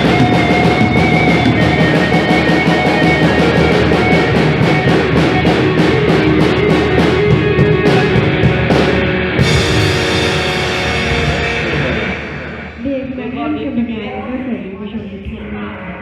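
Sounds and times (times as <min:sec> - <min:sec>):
electric guitar chords: 0:00.0 - 0:13.4
drum kit playing: 0:00.0 - 0:13.5.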